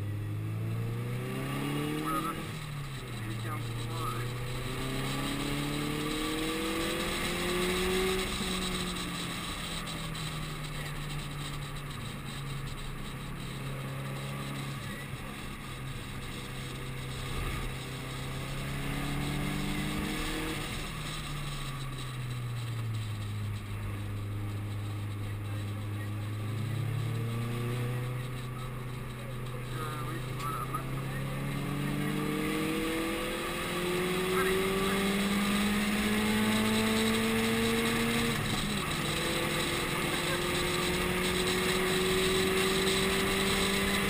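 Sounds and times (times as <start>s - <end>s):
car engine revving: 0.0s - 44.0s
steady hiss: 1.9s - 44.0s.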